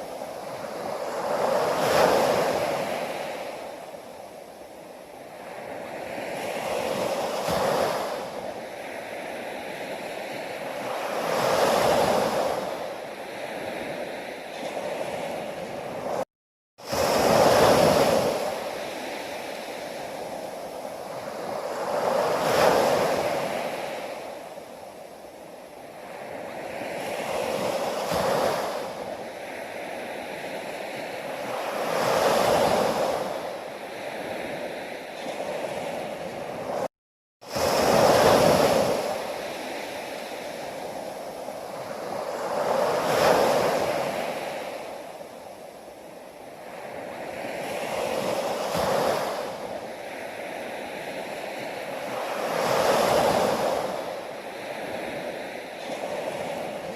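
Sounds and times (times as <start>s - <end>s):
ocean waves breaking ashore: 0.0s - 56.9s.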